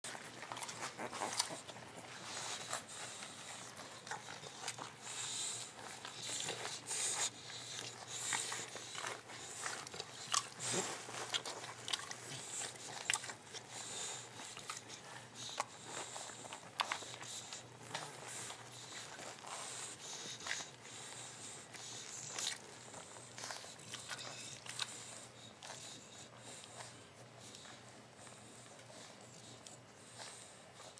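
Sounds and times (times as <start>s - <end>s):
puppies suckling: 0.1s - 30.9s.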